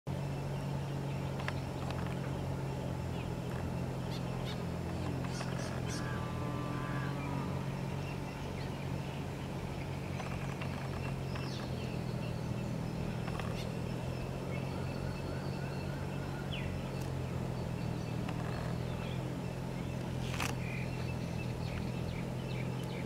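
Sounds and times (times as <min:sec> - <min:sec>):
low motor hum: 0:00.1 - 0:23.0
small birds chirping: 0:00.1 - 0:23.0.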